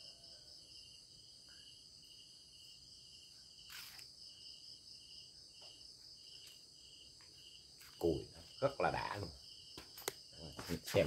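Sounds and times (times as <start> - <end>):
insect trill: 0.0 - 11.0
pulsing insect chirp: 0.0 - 11.0.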